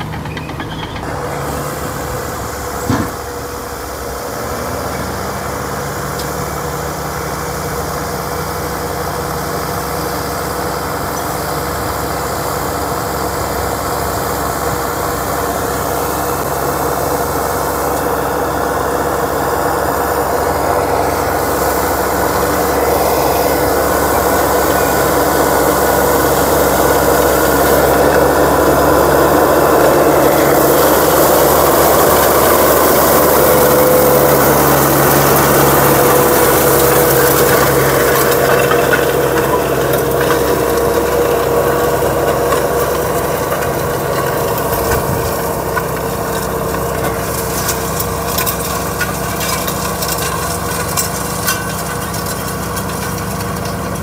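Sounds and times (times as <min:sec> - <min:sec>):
diesel dozer engine running: 0:00.0 - 0:54.0.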